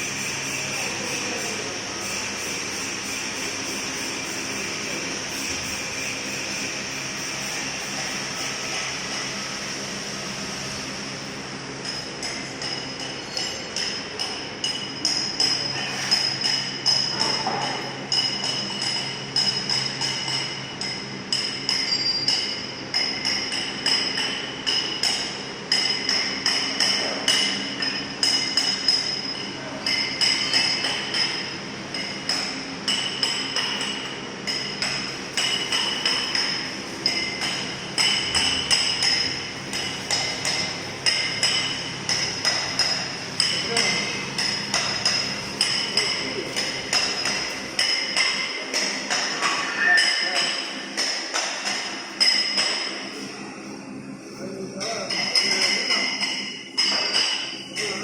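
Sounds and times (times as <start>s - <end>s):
steady machine hum: 0.0s - 58.0s.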